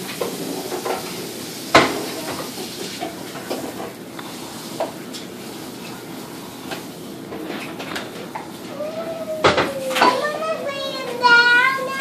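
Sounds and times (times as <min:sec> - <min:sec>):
sink sprayer hissing water: 0:00.0 - 0:12.0.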